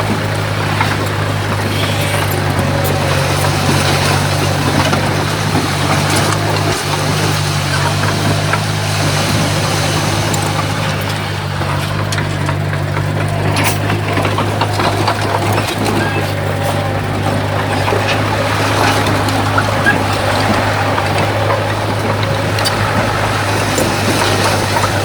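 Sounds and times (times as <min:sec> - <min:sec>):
bulldozer diesel engine droning: 0:00.0 - 0:25.0
faint clicks: 0:00.0 - 0:25.0.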